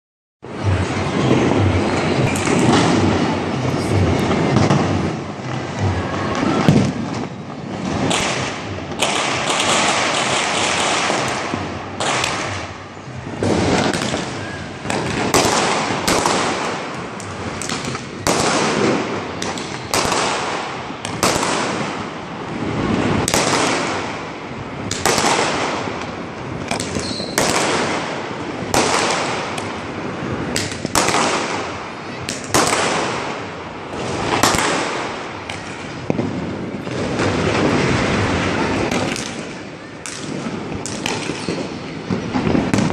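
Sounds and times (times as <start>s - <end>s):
crackling hissing fireworks: 0.4s - 42.9s
firecrackers banging: 0.4s - 42.9s.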